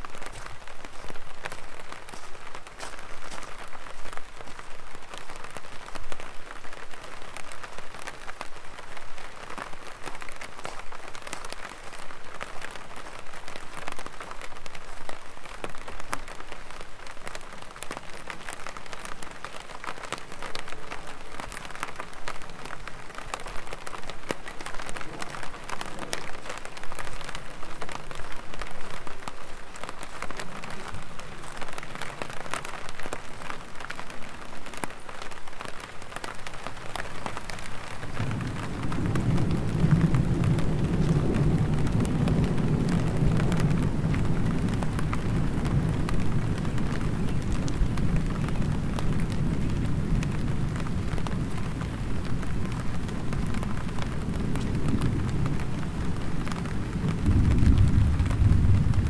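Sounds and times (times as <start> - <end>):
light rain on an umbrella: 0.0 - 59.0.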